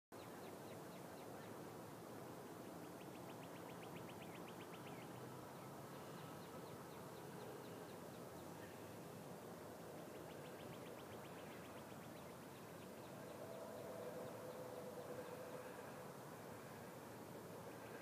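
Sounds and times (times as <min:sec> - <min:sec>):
faint low drone: 0:02.7 - 0:18.0.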